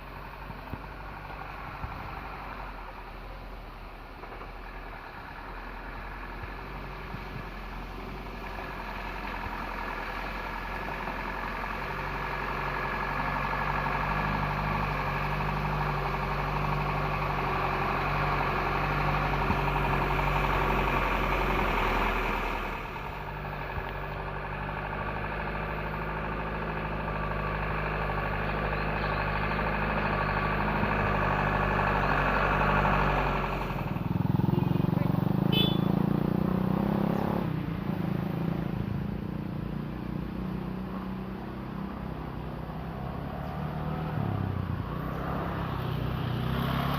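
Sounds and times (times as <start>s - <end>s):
old truck engine running: 0.0s - 43.2s.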